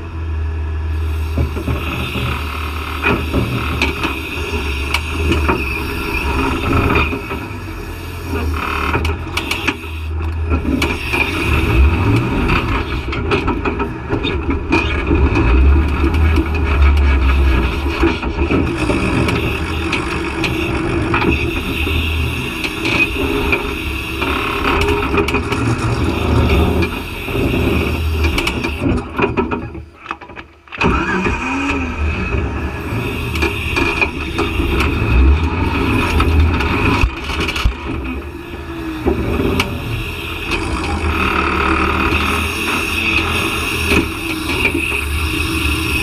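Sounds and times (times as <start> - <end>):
off-road vehicle engine revving: 0.0 - 29.1, 30.8 - 46.0.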